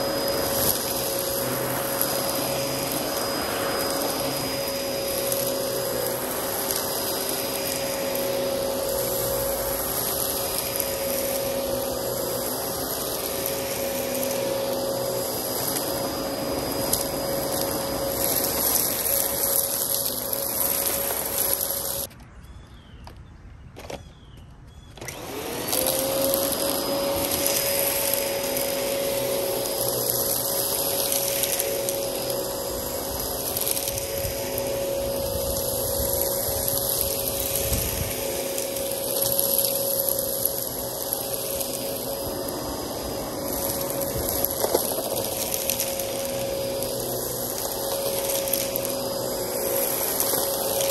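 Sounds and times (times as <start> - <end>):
vacuum cleaner motor whine: 0.0 - 22.9, 24.9 - 50.9.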